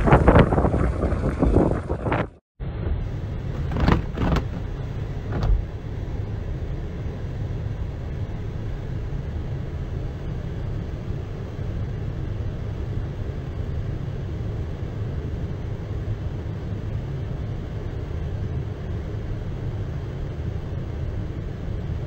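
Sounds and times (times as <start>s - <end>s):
vehicle interior rumble: 0.0s - 22.0s.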